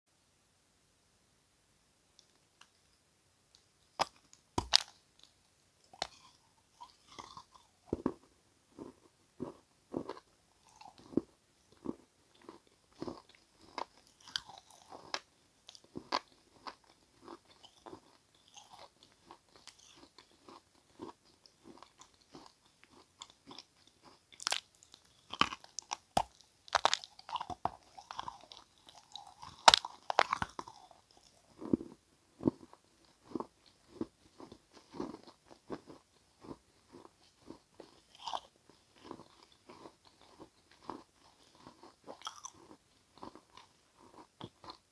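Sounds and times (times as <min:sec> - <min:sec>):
person chewing crunchy chalk: 0:04.0 - 0:44.9.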